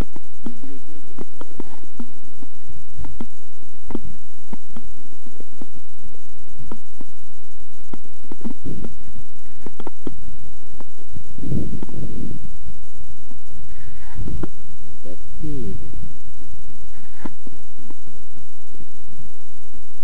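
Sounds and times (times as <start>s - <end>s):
low rumble: 0.0s - 19.2s.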